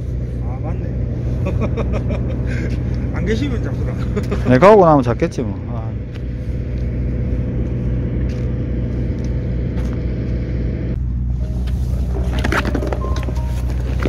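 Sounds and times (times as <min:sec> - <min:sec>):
machinery engine drone: 0:00.0 - 0:14.0.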